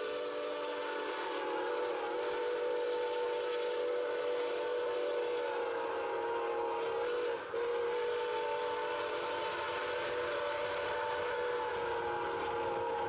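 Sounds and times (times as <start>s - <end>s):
locomotive whistle chord: 0.0s - 13.0s.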